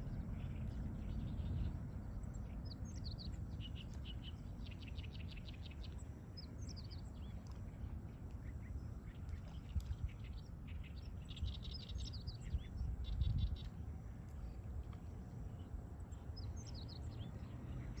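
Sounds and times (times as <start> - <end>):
small birds singing and chirping: 0.0 - 14.6, 15.4 - 18.0
steady low rumble: 0.0 - 18.0.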